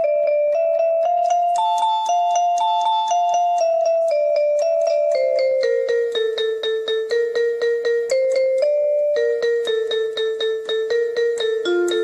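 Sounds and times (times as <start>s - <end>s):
keyboard melody descending: 0.0s - 12.0s.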